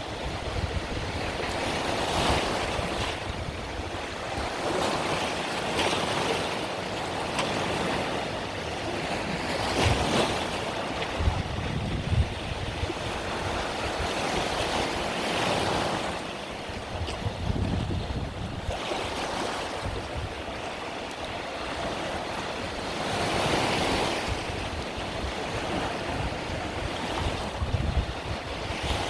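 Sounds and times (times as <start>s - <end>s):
wind rumble on microphone: 0.0s - 5.2s, 9.5s - 29.0s
sea waves breaking on a beach: 0.0s - 29.0s.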